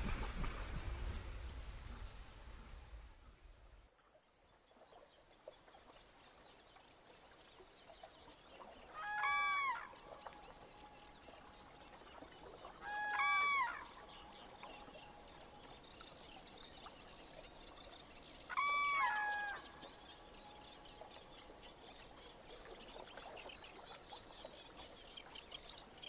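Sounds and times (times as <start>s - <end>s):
faint trickling water: 0.0s - 26.0s.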